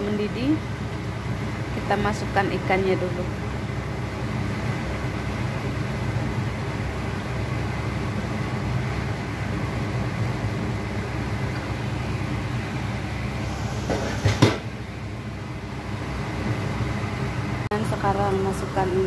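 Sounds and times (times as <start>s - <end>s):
gas burner rumble: 0.0s - 19.0s.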